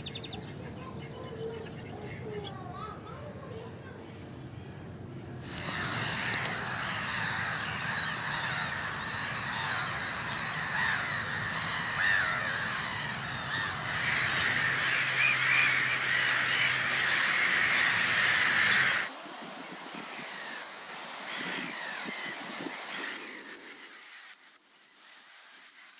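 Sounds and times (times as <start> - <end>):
flock of birds calling: 0.0 - 25.9.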